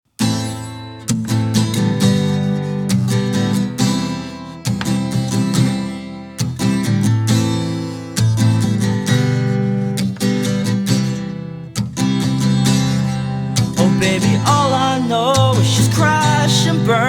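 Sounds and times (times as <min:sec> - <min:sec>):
acoustic guitar strumming: 0:00.1 - 0:17.0.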